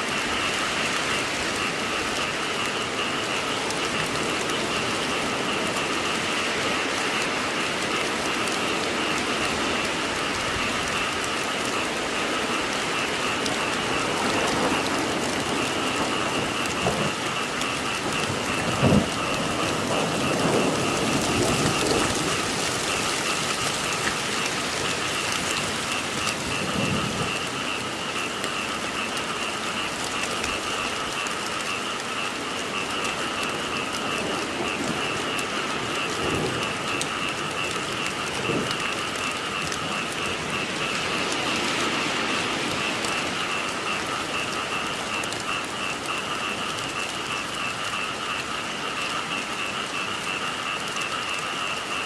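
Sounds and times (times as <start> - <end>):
frogs croaking: 0.0 - 52.0
heavy rain falling: 0.0 - 52.0.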